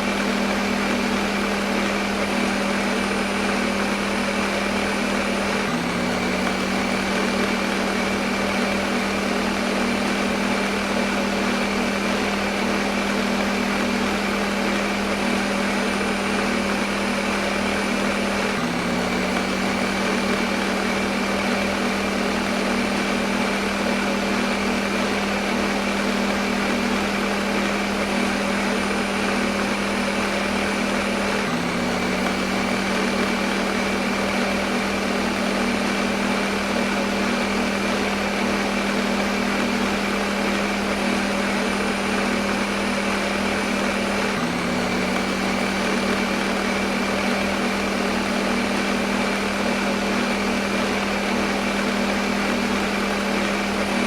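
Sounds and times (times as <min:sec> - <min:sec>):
electric blender motor whirring: 0:00.0 - 0:54.0.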